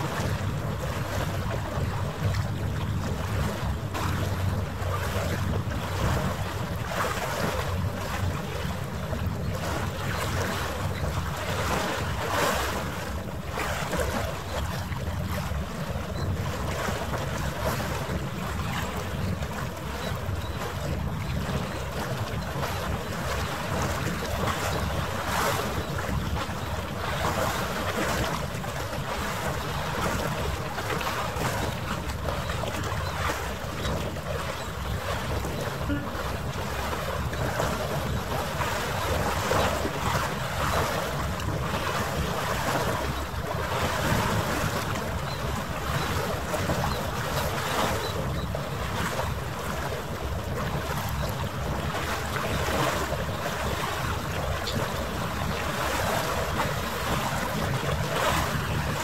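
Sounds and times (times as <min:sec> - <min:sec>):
harbour water washing: 0:00.0 - 0:59.0
wind buffeting microphone: 0:00.0 - 0:59.0.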